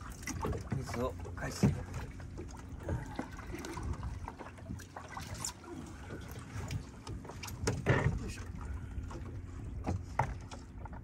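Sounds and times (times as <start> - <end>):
seawater sloshing and splashing: 0.0 - 11.0.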